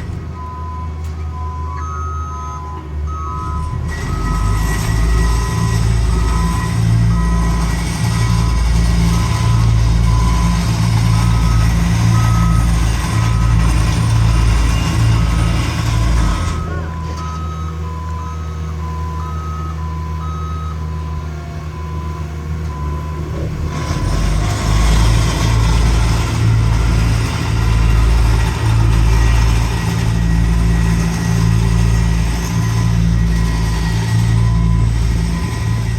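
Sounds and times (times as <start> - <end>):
heavy paving machinery running: 0.0 - 35.9
backup alarm beeping: 0.3 - 35.9.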